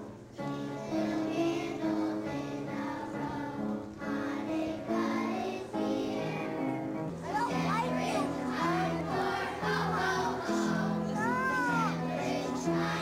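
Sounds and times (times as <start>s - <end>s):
children's choir singing: 0.0s - 13.0s
piano accompaniment: 0.0s - 13.0s.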